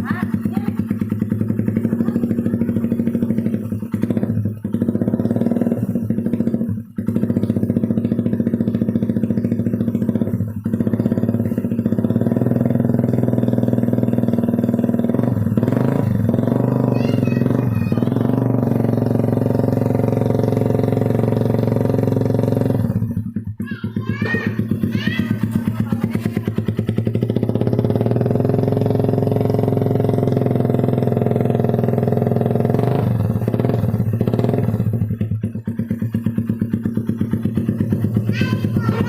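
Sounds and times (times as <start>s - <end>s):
motorcycle engine through racing exhaust: 0.0s - 39.0s.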